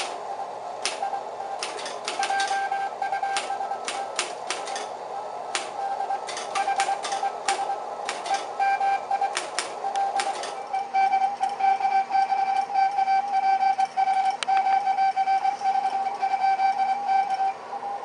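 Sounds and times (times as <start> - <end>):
morse code tone beeping: 1.0 - 4.2, 5.6 - 17.6.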